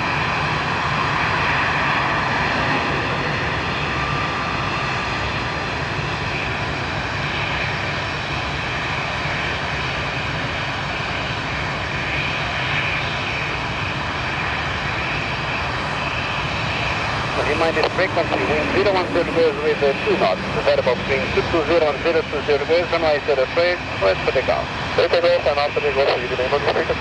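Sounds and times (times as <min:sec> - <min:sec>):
jet engines at taxi power: 0:00.0 - 0:27.0.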